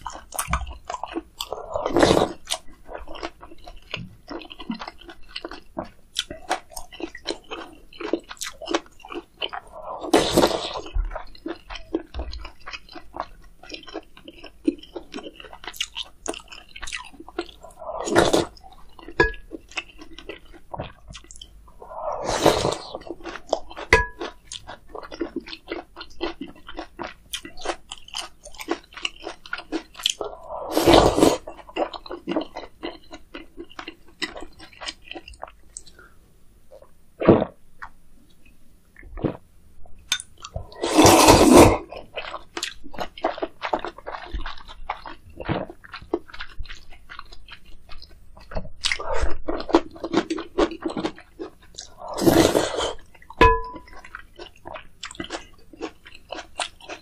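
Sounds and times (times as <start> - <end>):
chewing and wet mouth sounds: 0.0 - 22.0, 22.7 - 30.5, 31.4 - 36.1, 40.0 - 57.0.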